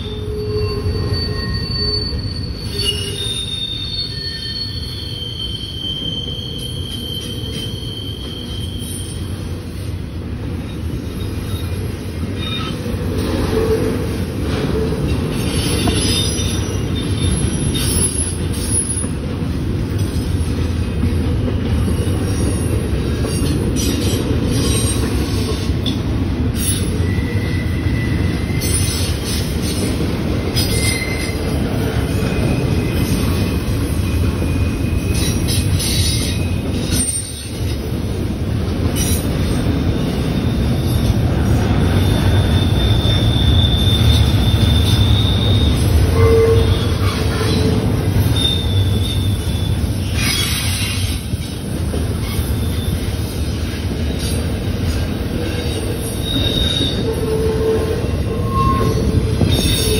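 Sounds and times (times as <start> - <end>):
high wheel squeals: 0.0 - 9.5, 10.5 - 19.1, 26.6 - 37.8, 39.0 - 53.5, 55.5 - 59.9
freight train wheels rumbling: 0.0 - 59.9.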